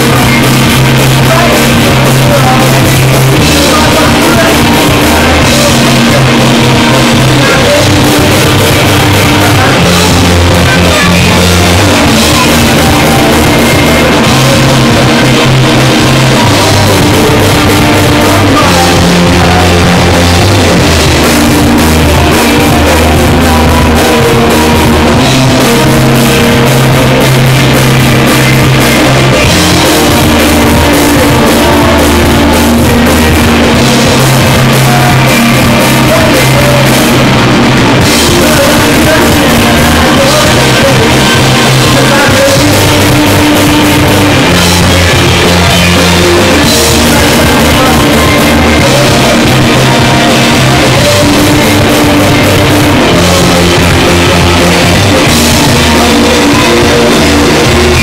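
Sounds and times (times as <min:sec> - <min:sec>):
drum kit: 0:00.0 - 0:58.0
electric guitars: 0:00.0 - 0:58.0
low bass line: 0:00.0 - 0:58.0.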